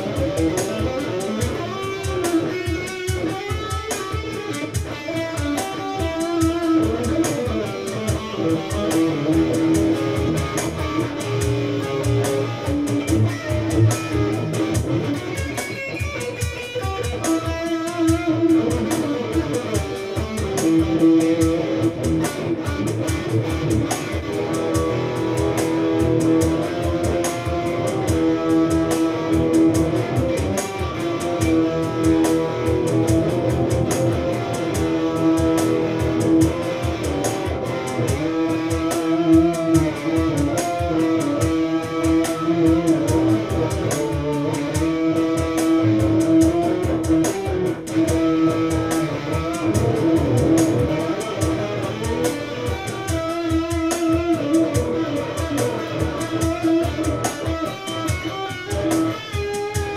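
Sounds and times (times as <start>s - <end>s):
electric guitar playing: 0.0s - 59.9s
steady beat: 0.0s - 59.9s.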